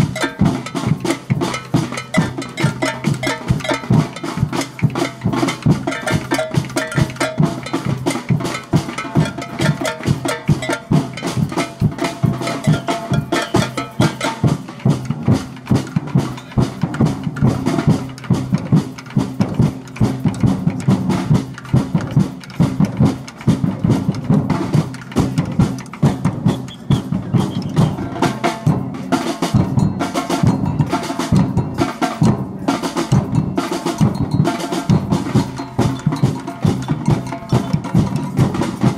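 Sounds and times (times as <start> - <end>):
samba percussion band: 0.0 - 38.9.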